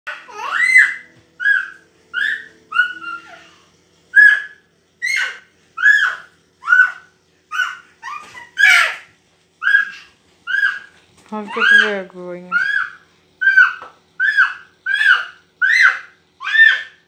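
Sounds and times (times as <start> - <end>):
toddler girl squealing: 0.1 - 10.9, 11.5 - 17.0.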